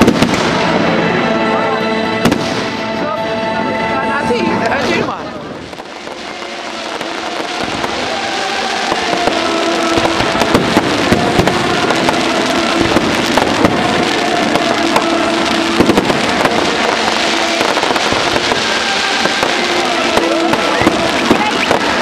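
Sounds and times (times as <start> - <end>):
fireworks bangs and crackles: 0.0 - 3.2, 4.2 - 22.0.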